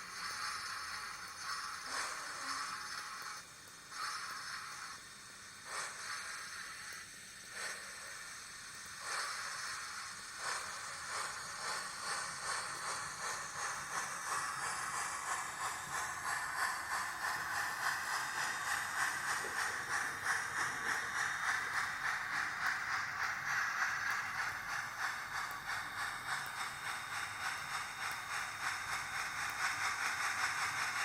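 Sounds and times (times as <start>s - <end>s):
steam locomotive chuffs from small speaker: 0.0s - 31.0s.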